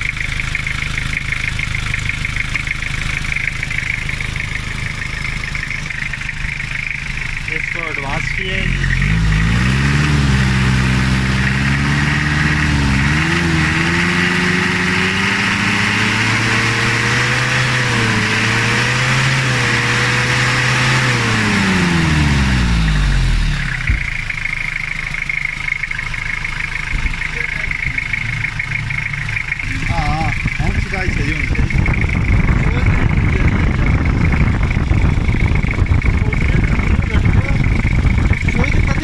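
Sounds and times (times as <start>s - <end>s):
diesel engine revving: 0.0s - 39.0s.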